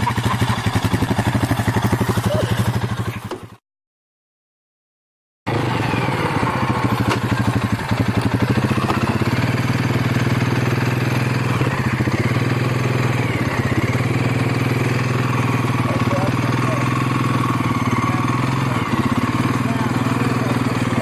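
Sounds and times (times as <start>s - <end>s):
atv engine running under load: 0.0s - 3.6s, 5.5s - 21.0s.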